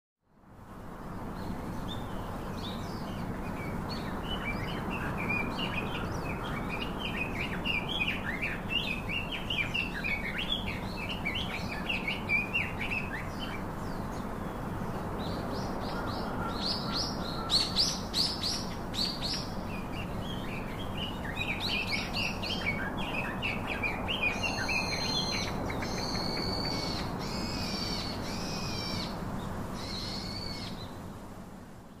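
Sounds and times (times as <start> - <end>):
outdoor background noise: 0.2 - 32.0.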